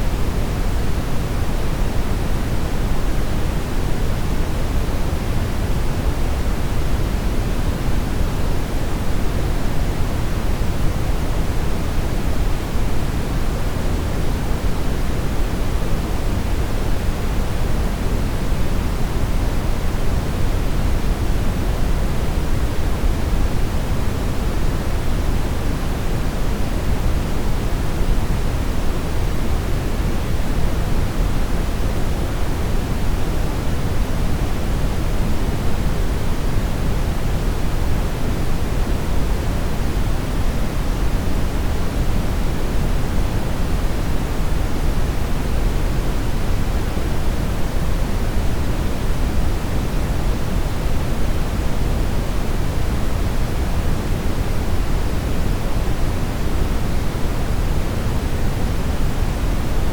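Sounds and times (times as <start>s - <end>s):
television static hiss: 0.0s - 59.9s.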